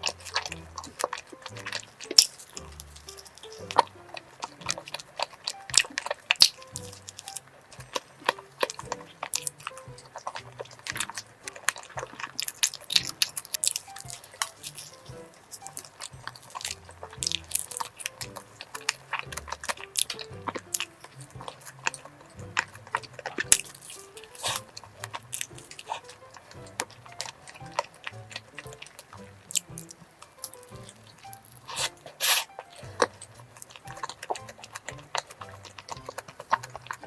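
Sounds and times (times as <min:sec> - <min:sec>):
crunchy chewing of pastry: 0:00.0 - 0:37.0
flaky pastry crackling: 0:00.0 - 0:37.0
soft background music: 0:00.0 - 0:37.0.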